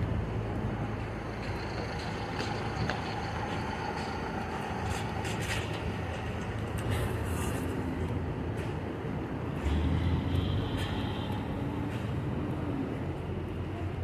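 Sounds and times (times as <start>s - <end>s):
motor vehicle traffic rumble: 0.0s - 14.0s.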